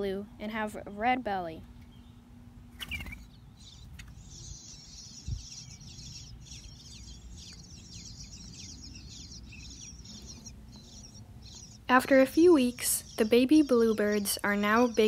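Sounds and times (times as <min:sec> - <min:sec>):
nestlings chirping: 0:01.7 - 0:15.0.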